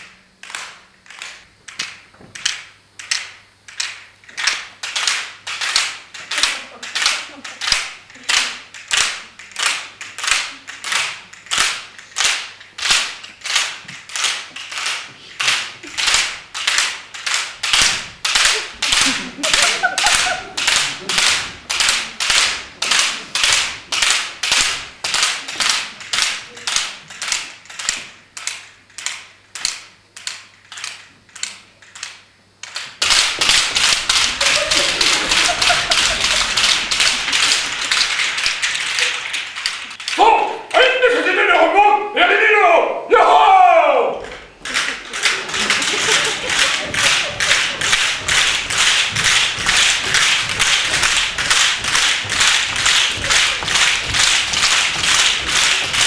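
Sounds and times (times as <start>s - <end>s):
wooden slats clacking: 0.4s - 40.2s, 44.2s - 56.0s.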